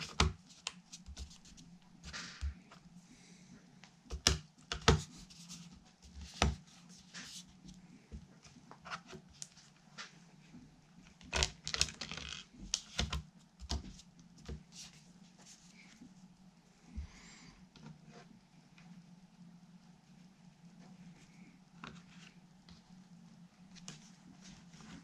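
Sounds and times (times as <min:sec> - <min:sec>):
steady low hum: 0:00.0 - 0:11.2, 0:13.3 - 0:25.0.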